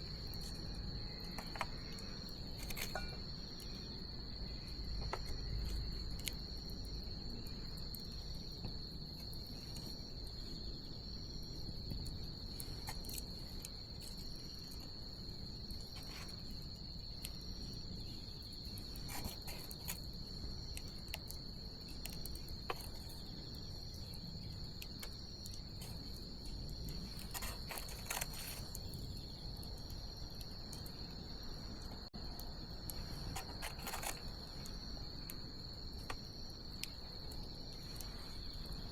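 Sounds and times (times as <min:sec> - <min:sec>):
insects trilling: 0:00.0 - 0:38.9
low rumble of fire: 0:00.0 - 0:38.9.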